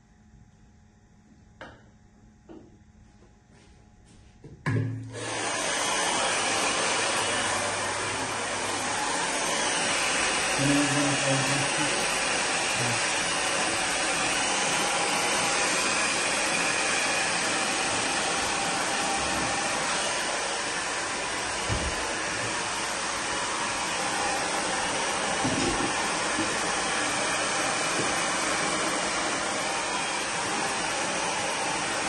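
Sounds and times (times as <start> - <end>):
hair dryer blowing: 5.1 - 32.0.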